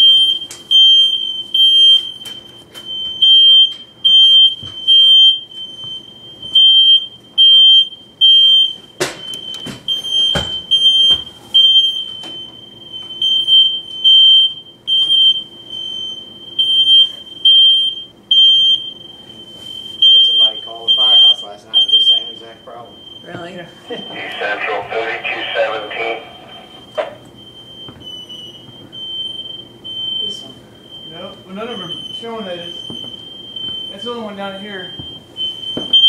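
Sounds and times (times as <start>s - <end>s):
smoke detectors beeping: 0.0s - 36.0s.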